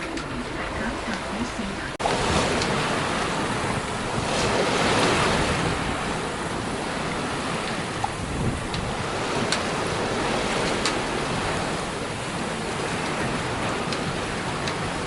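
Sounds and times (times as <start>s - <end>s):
water rushing along boat hull: 0.0s - 15.0s
wind buffeting microphone: 0.0s - 15.0s.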